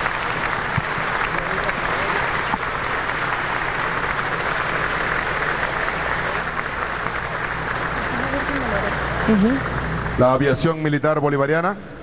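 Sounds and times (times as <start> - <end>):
audience applause: 0.0 - 11.6.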